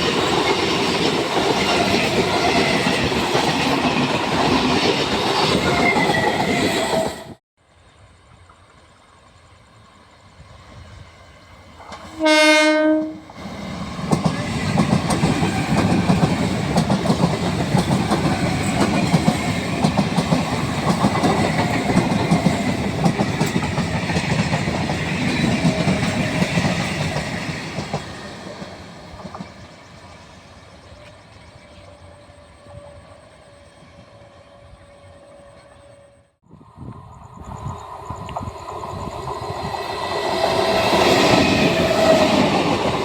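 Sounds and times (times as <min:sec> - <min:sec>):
train rumble: 0:00.0 - 0:43.0.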